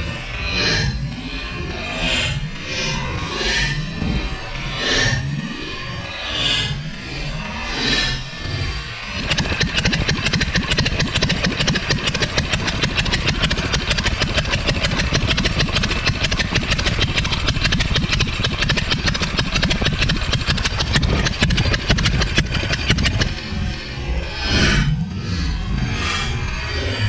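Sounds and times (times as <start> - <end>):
radial aircraft engine running: 0.0 - 27.0.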